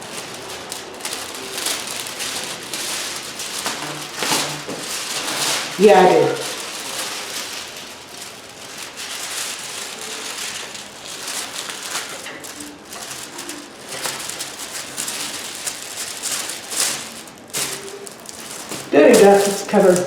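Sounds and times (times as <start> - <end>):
paper rustling and rubbing: 0.0 - 20.0.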